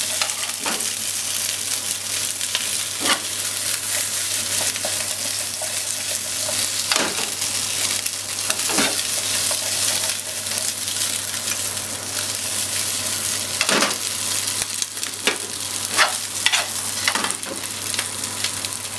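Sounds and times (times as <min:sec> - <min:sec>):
food sizzling in frying pan: 0:00.0 - 0:18.9.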